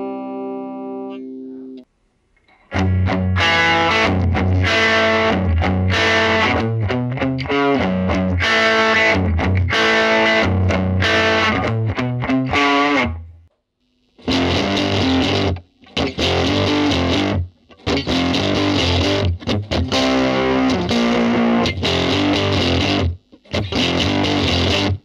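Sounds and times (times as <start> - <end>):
overdriven electric guitar chords: 0.0 - 1.9, 2.7 - 13.4, 14.2 - 25.0.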